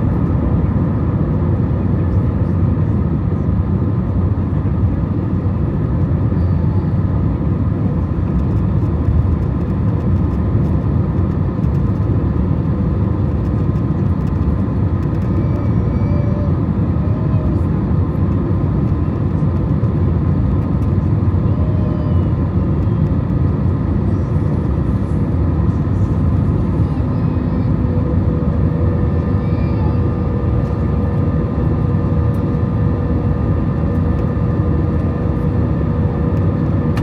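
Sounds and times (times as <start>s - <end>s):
jet engines low rumble: 0.0s - 37.0s.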